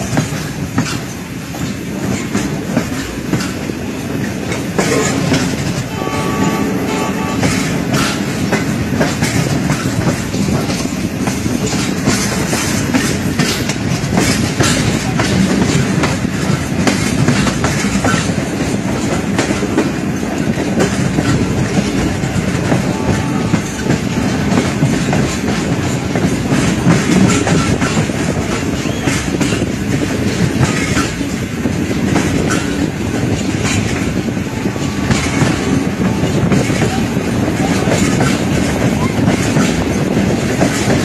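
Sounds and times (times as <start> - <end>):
train wheels clattering over rails: 0.0 - 41.0.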